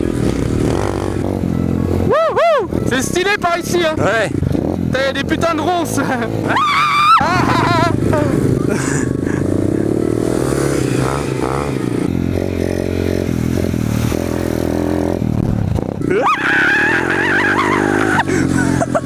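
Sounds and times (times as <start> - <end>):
dirt bike engine revving: 0.0 - 2.1, 2.7 - 19.0.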